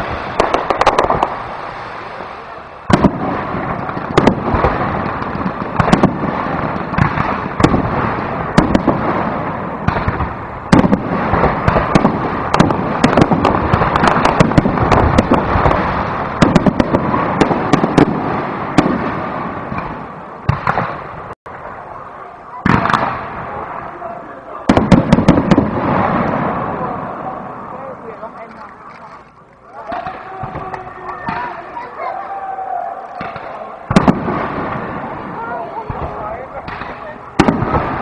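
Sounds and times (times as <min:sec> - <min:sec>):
fireworks crackling: 0:00.0 - 0:38.0.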